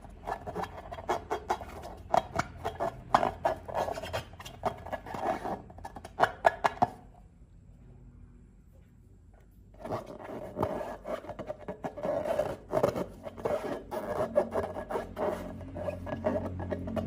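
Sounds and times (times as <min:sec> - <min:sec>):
rubbing and scraping with crackles: 0:00.0 - 0:07.0, 0:09.5 - 0:17.0.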